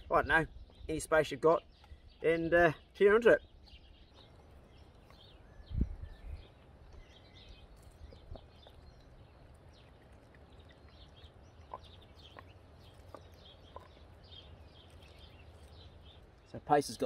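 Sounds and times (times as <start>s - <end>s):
birdsong chirping: 0.0s - 17.0s.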